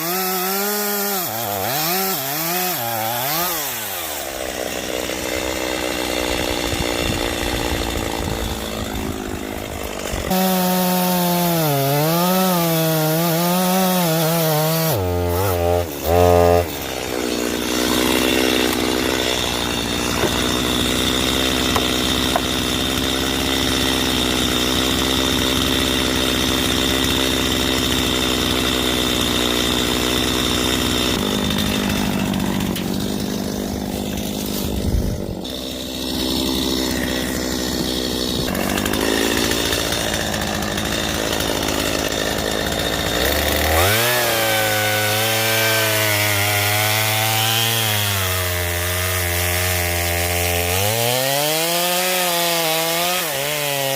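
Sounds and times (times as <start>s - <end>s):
chainsaw cutting tree trunk: 0.0s - 53.9s.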